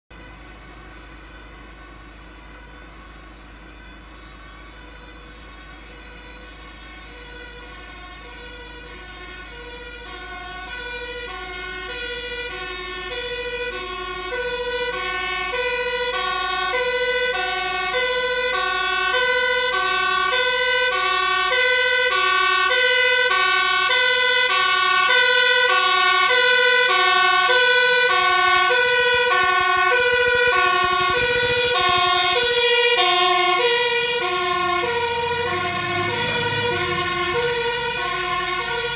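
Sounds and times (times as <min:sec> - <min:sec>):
engine rumble: 0:00.1 - 0:38.9
two-tone fire engine siren: 0:00.1 - 0:38.9.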